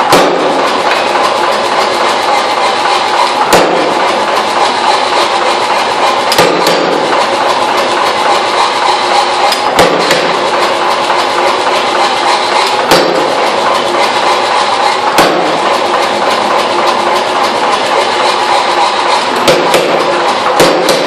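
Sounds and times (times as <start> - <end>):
loud metal clanks: 0.0 - 21.0
power hammer striking steel: 0.0 - 21.0.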